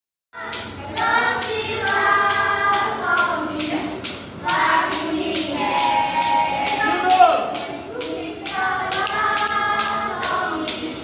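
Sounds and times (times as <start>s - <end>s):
group of voices singing: 0.4s - 11.0s
hands clapping a beat: 0.4s - 11.0s.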